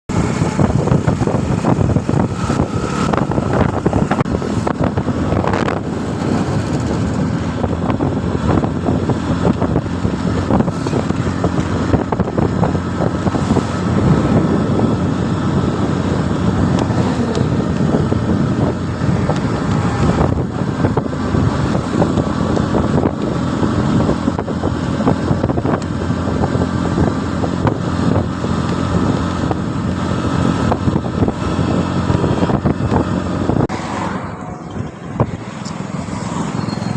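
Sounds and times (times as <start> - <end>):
motorcycle engine running: 0.1 - 33.7
wind noise on microphone: 0.1 - 36.9.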